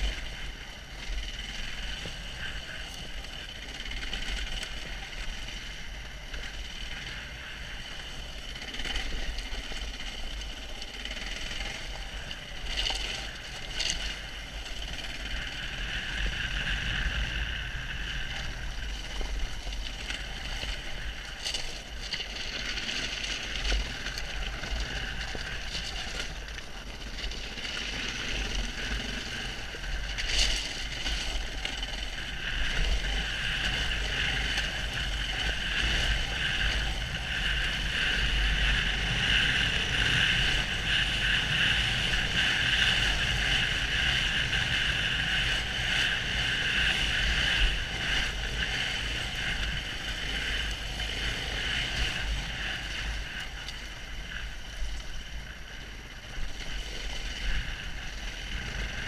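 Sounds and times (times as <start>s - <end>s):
motorcycle engine running: 0.0s - 59.0s
wind rumbling over microphone: 0.0s - 59.0s.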